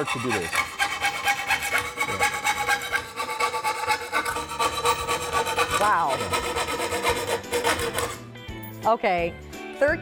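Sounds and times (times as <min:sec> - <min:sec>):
hand saw sawing wood: 0:00.0 - 0:08.2.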